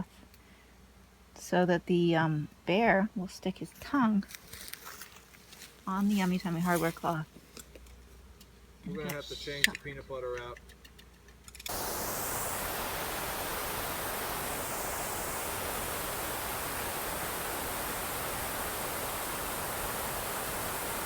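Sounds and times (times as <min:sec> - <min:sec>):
steady broadband hiss: 0:00.0 - 0:21.0.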